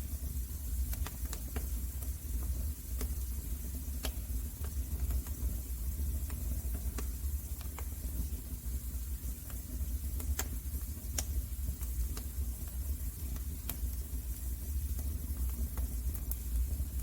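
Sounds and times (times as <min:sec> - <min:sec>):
low rumble of flames: 0:00.0 - 0:17.0
wood fire crackling and popping: 0:00.1 - 0:17.0.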